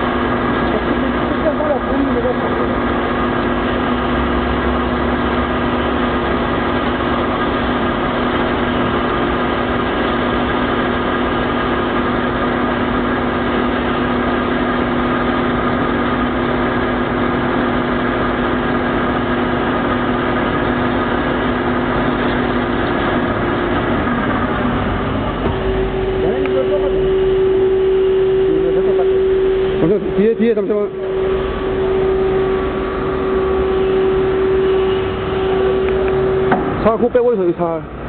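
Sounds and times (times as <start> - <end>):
band saw cutting steel: 0.0 - 37.4.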